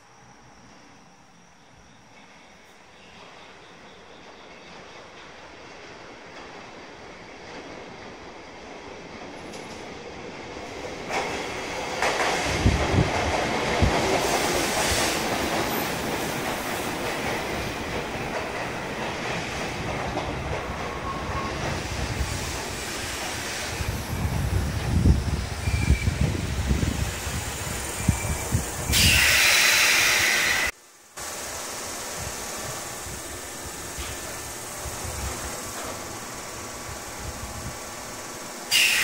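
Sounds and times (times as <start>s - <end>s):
train wheel-on-rail noise: 0.0s - 39.0s.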